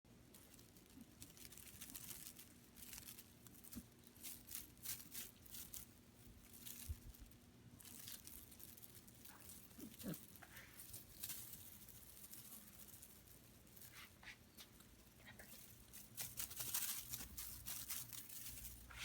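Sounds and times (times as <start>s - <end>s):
rustling and crinkling: 0.1s - 19.0s.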